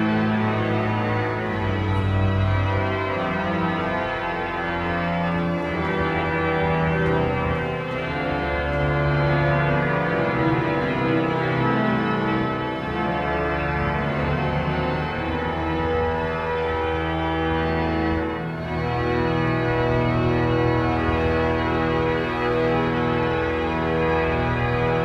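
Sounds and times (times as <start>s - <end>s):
pipe organ playing sustained chords: 0.0s - 25.0s.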